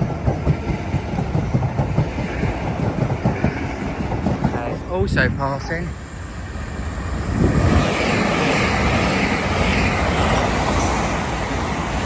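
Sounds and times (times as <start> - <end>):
train passing wheel and air noise: 0.0 - 12.0.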